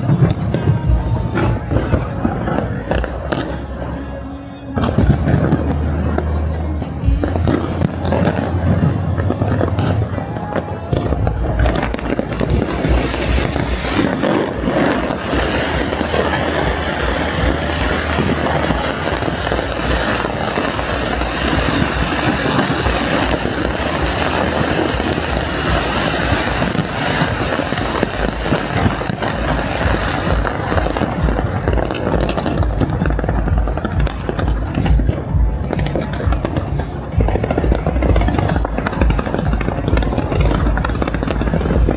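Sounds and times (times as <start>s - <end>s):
fireworks bangs and crackles: 0.0s - 3.7s, 4.8s - 41.9s
music soundtrack: 0.0s - 41.9s.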